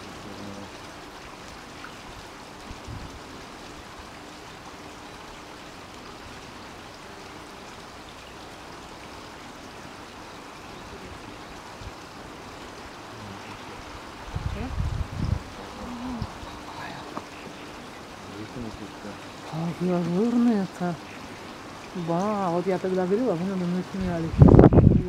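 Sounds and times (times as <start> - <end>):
brook running over stones: 0.0 - 25.0.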